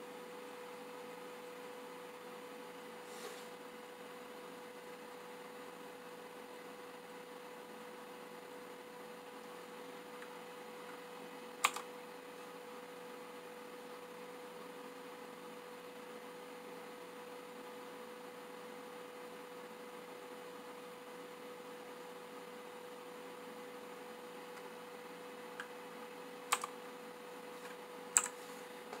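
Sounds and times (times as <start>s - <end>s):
electrical hum and hiss: 0.0s - 29.0s.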